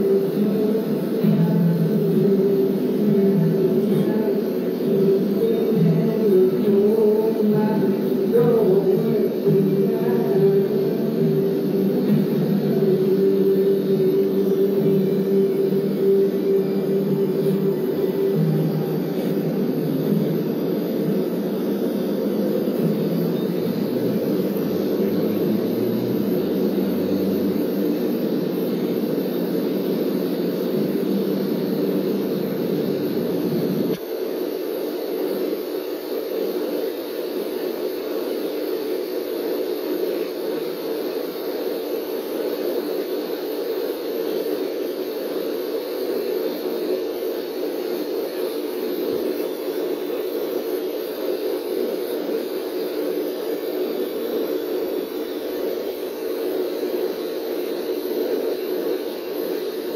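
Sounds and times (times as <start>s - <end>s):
tattoo machine humming: 0.0s - 59.9s.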